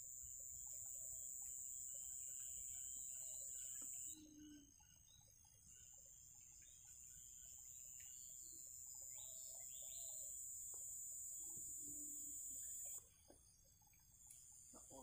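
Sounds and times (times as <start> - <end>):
high-pitched insect drone: 0.0 - 13.1
faint bird chirps: 0.0 - 15.0.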